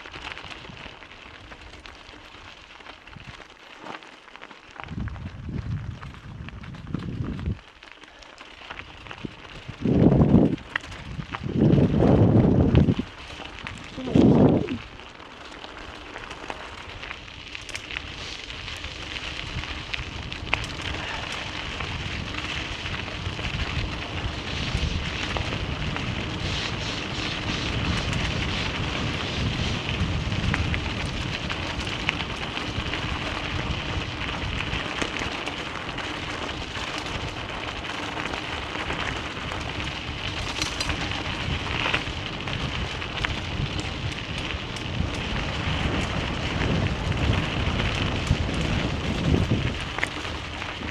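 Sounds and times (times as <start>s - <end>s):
tyres crunching on gravel: 0.0s - 50.9s.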